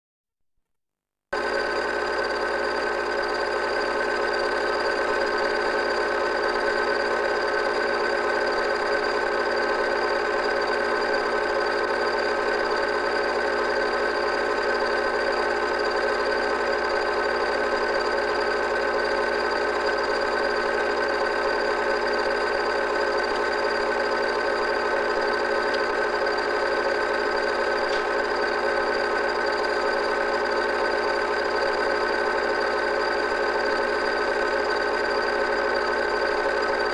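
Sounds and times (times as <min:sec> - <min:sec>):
film projector whirring: 0:01.4 - 0:36.9.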